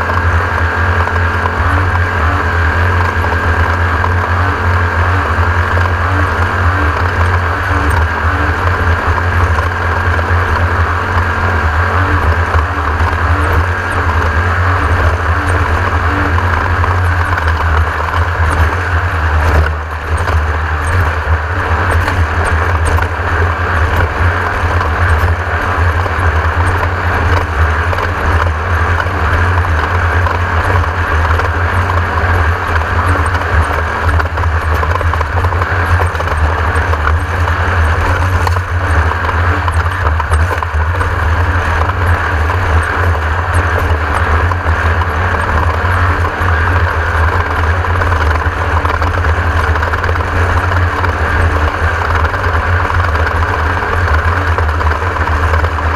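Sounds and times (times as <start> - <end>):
driving noise: 0.0 - 55.9
race car engine drone: 0.0 - 55.9.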